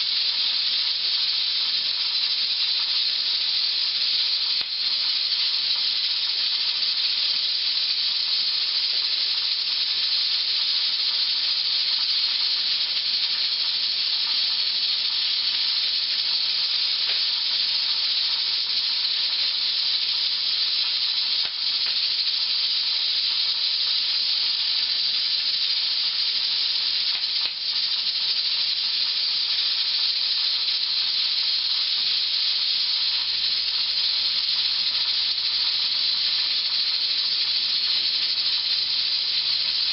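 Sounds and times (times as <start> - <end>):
pressure canner hissing steam: 0.0 - 39.9.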